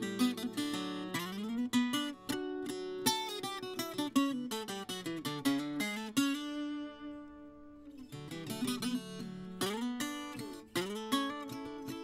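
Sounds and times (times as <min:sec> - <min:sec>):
plucked guitar notes and chords: 0:00.0 - 0:12.0.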